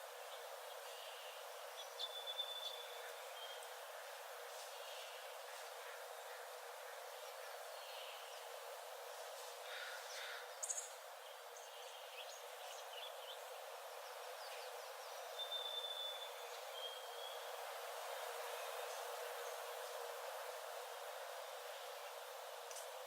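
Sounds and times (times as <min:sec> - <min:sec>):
steady even hiss: 0:00.0 - 0:15.4, 0:16.2 - 0:23.0.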